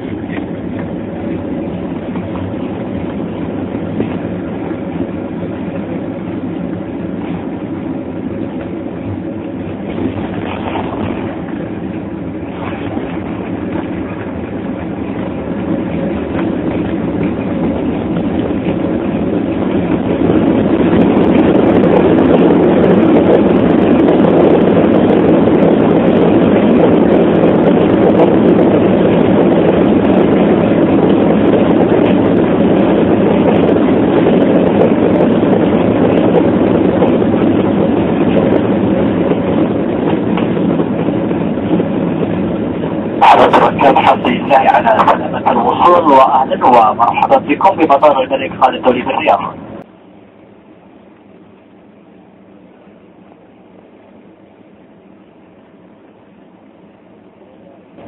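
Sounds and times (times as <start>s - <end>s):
jet engines and rushing airflow: 0.0s - 58.0s.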